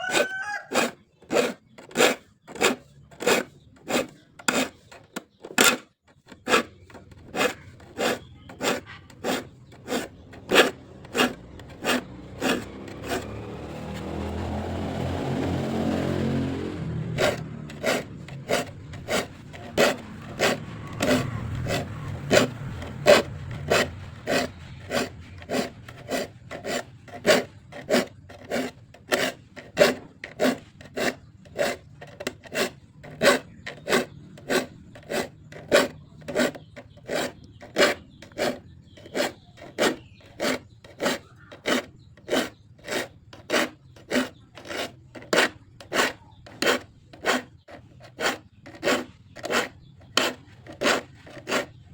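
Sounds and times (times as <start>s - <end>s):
file rasping on saw teeth: 0.0s - 51.9s.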